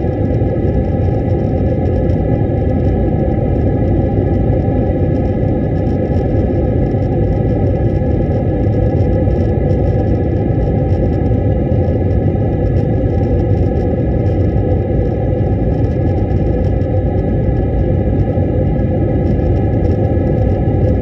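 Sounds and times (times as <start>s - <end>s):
faint steady whine: 0.0s - 21.0s
jet engine and airflow rumble: 0.0s - 21.0s.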